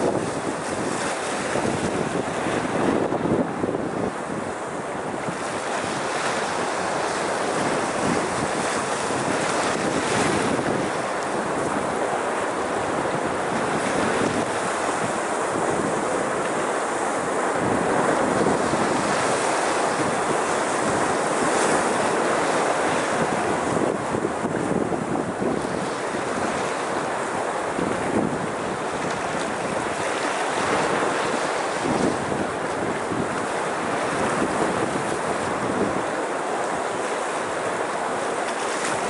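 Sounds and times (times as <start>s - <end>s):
sea surf washing over rocks: 0.0s - 39.0s.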